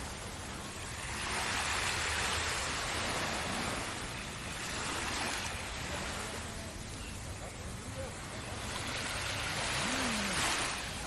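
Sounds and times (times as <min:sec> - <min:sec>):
low surf rumble: 0:00.0 - 0:11.0
waves breaking: 0:00.0 - 0:11.0.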